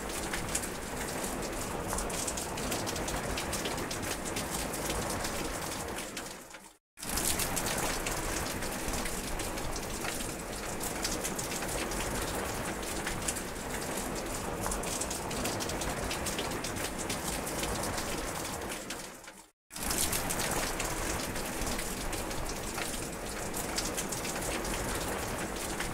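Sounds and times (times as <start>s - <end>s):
heavy rain on vegetation: 0.0s - 25.9s
raindrops ticking close by: 0.0s - 25.9s.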